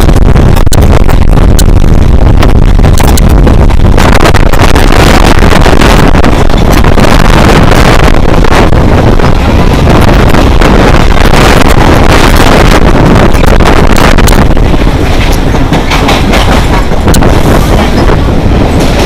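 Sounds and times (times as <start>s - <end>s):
crackles: 0.0s - 18.1s
train rumbling on rails: 0.0s - 19.0s
wind buffeting microphone: 0.0s - 19.0s.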